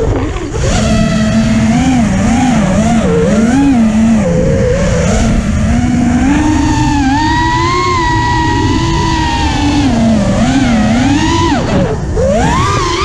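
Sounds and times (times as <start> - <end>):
drone motors whining: 0.0 - 13.0
low wind rumble: 0.0 - 13.0.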